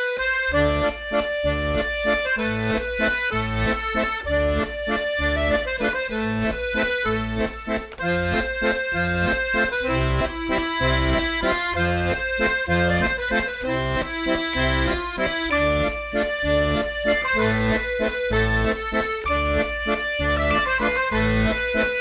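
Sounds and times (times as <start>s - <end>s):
instrumental music with bouncing bass: 0.0s - 22.0s.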